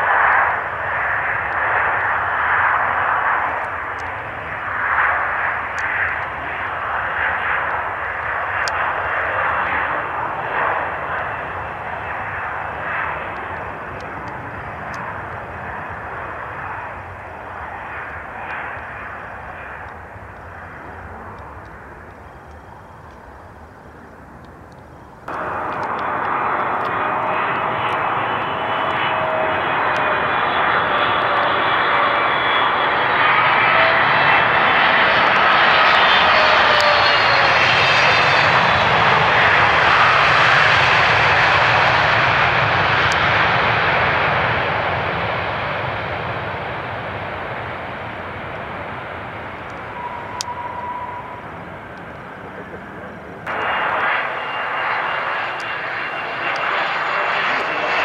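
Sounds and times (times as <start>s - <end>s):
jet airliner engines passing: 0.0s - 58.0s.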